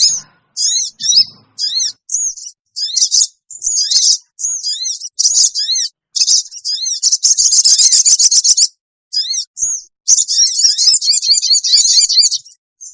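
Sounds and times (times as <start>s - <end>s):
bird shrill chittering call: 0.0s - 12.9s.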